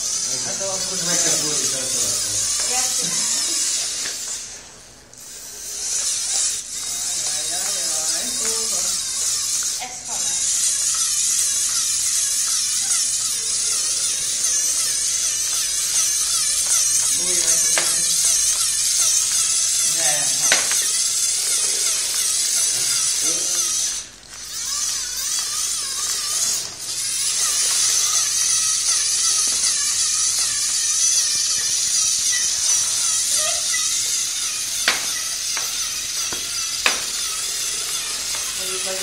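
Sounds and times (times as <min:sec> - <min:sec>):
small electric motors whirring: 0:00.0 - 0:39.0.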